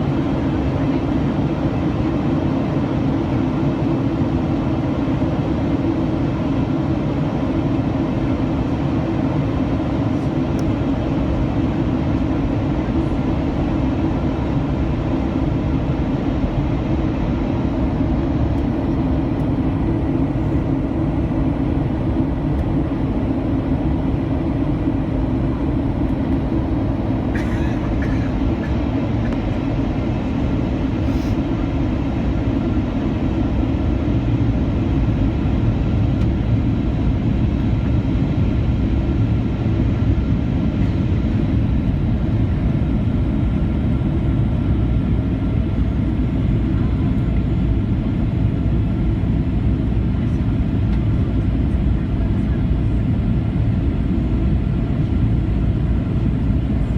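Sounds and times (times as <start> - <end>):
faint steady whines: 0.0 - 56.9
jet engine cabin roar: 0.0 - 56.9.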